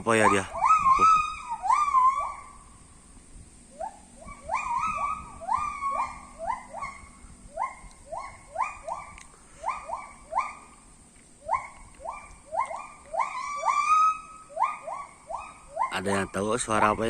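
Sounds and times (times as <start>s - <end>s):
primate hooting: 0.0s - 2.9s, 3.7s - 17.0s.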